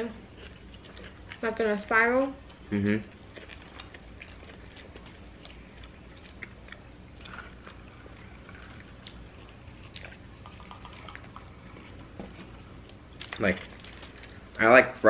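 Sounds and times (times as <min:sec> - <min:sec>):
chewing and crunching sandwich: 0:00.0 - 0:14.8.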